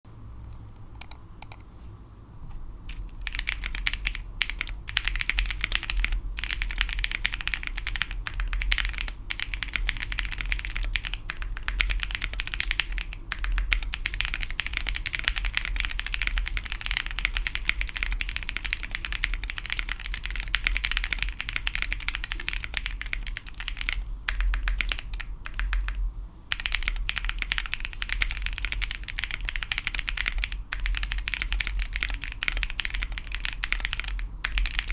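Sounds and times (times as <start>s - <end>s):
mechanical keyboard typing: 1.0s - 1.6s, 2.9s - 34.9s.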